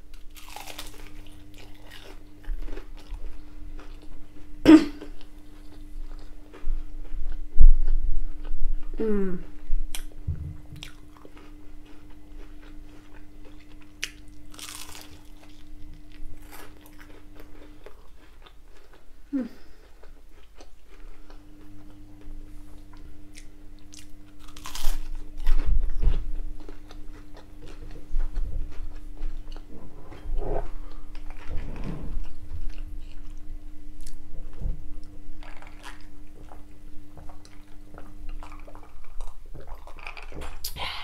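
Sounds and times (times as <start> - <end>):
chewing and crunching fried food: 0.0 - 8.9, 10.8 - 41.0.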